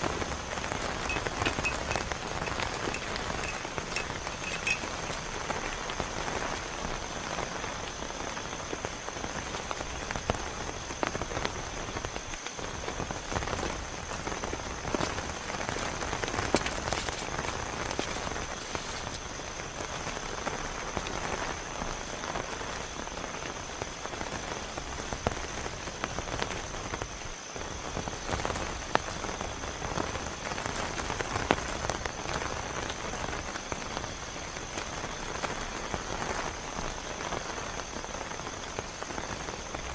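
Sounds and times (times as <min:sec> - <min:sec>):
close raindrop hits: 0:00.0 - 0:39.9
heavy rain: 0:00.0 - 0:39.9.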